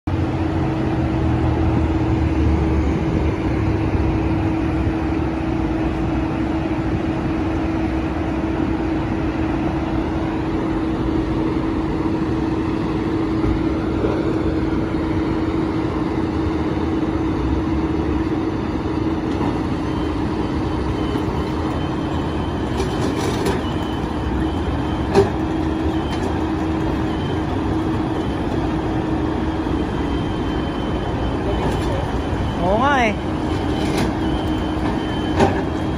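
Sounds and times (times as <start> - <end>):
truck engine running: 0.1 - 35.9.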